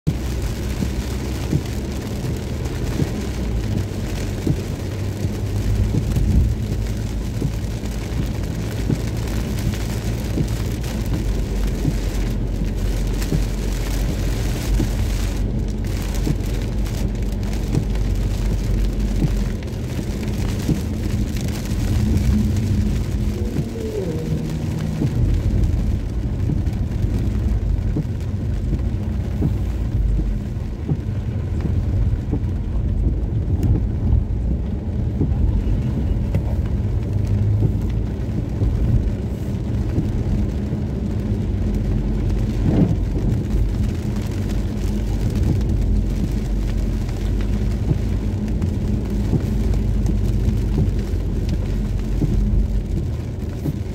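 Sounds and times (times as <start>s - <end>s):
low rumble of car: 0.0s - 53.9s
rain drops ticking on car: 0.0s - 53.9s
tyres hissing on wet road: 0.1s - 53.9s.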